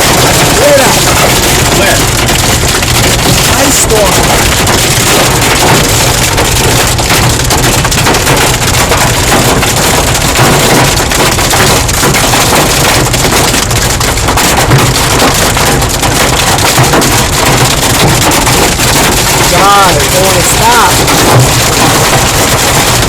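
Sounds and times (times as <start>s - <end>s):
hail drumming on car roof: 0.0s - 23.0s.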